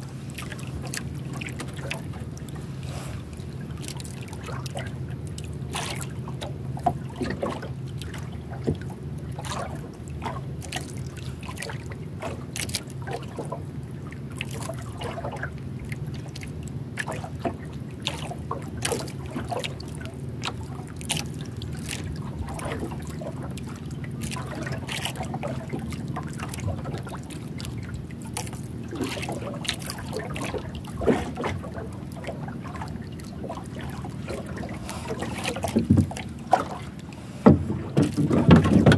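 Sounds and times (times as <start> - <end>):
waves lapping against canoe hull: 0.0 - 38.9.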